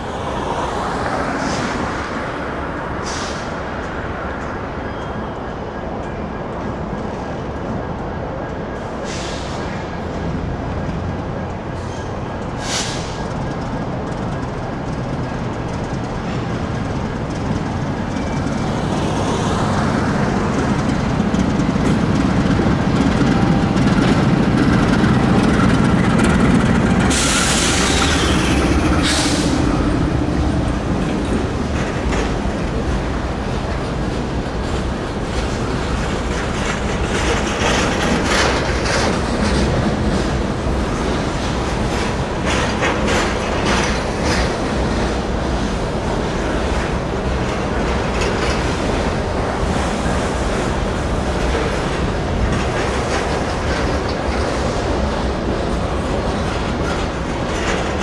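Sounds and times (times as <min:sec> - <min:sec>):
locomotive rumbling: 0:00.0 - 0:58.0
wheels clicking over rail joints: 0:10.1 - 0:58.0.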